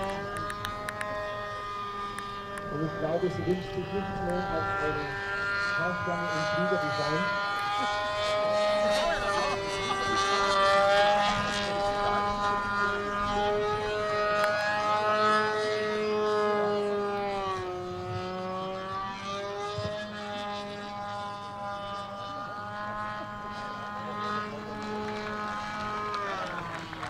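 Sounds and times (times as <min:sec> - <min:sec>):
model airplane engine buzzing: 0:00.0 - 0:27.0.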